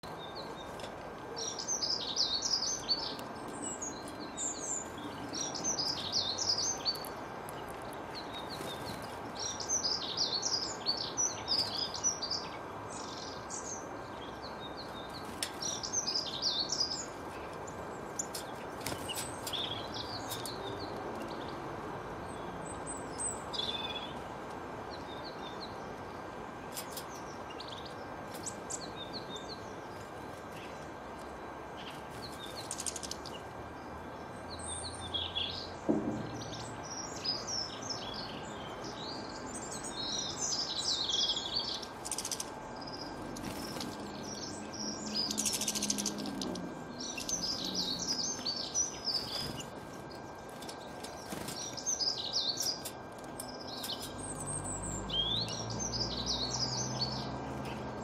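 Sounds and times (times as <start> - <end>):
faint hum: 0.0 - 58.0
songbirds singing and chirping: 0.0 - 58.0.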